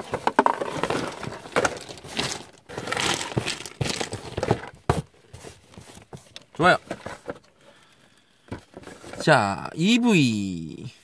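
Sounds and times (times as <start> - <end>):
cardboard and plastic crinkling: 0.0 - 7.8, 8.4 - 9.6.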